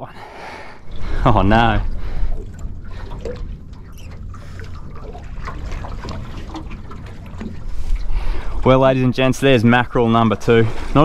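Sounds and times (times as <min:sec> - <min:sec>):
low rumble: 0:00.0 - 0:10.9
water splashing and trickling: 0:00.3 - 0:11.0.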